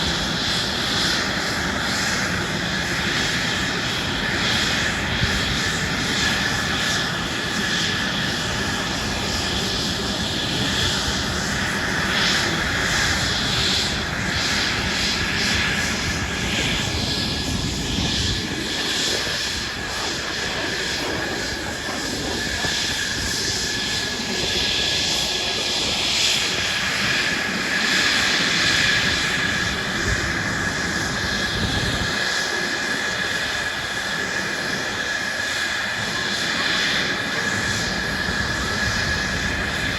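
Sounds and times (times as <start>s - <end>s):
airplane engine running: 0.0s - 39.9s.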